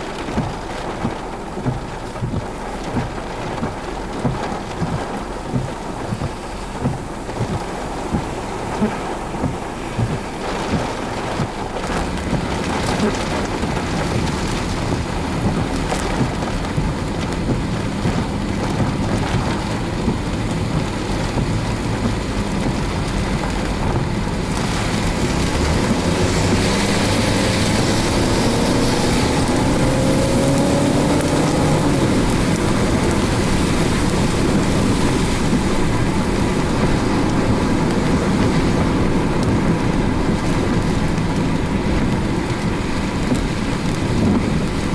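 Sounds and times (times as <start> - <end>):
rain: 0.0 - 44.9
wind: 0.0 - 44.9.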